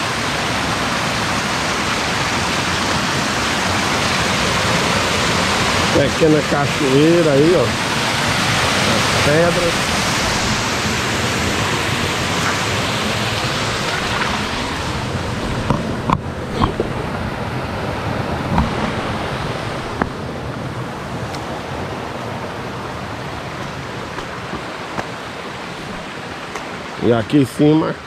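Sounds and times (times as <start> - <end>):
waterfall and rapids rushing: 0.0 - 28.0.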